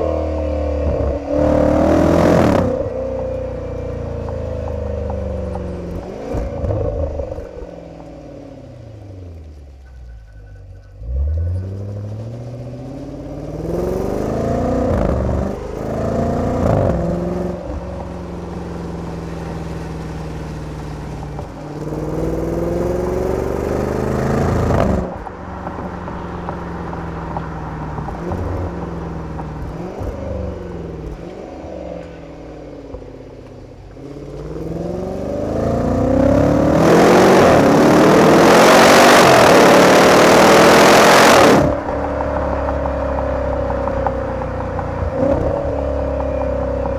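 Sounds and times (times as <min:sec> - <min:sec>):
car exhaust accelerating: 0:00.0 - 0:46.9.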